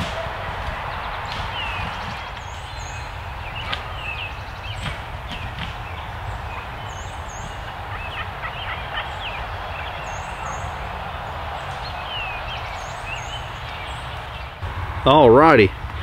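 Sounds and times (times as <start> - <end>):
turkey flapping in dry leaves: 0.0 - 14.4
songbirds chirping: 0.0 - 16.0.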